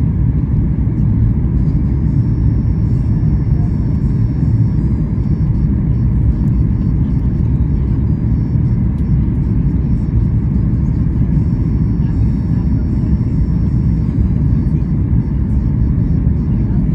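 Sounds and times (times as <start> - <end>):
airliner cabin rumble: 0.0 - 16.9.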